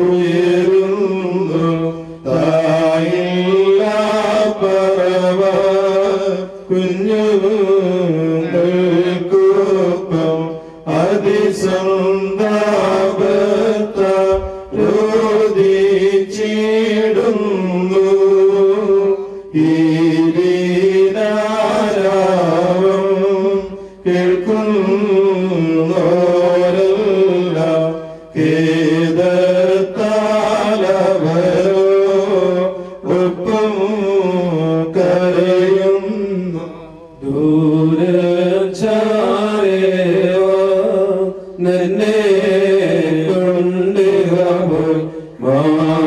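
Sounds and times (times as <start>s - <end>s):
men chanting a hymn: 0.0s - 46.0s.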